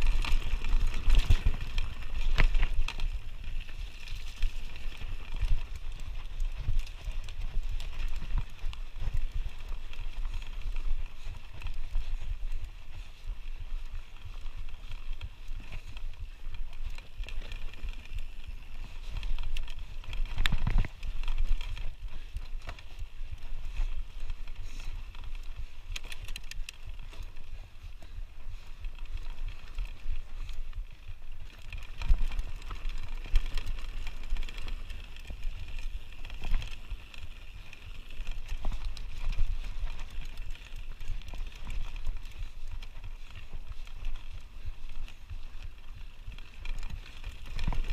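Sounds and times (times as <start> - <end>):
bike rattling: 0.0 - 47.9
bike tyres rolling over stones: 0.0 - 47.9
wind on camera: 0.0 - 47.9.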